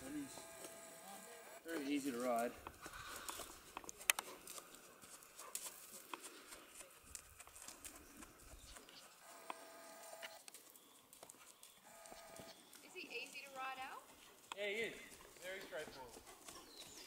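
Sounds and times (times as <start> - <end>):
horse hoofbeats on sand: 1.7 - 9.2, 10.4 - 17.0.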